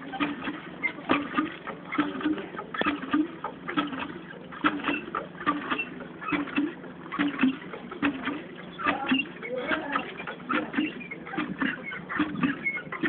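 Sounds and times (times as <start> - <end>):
hand pump squeaking and knocking: 0.0 - 13.0.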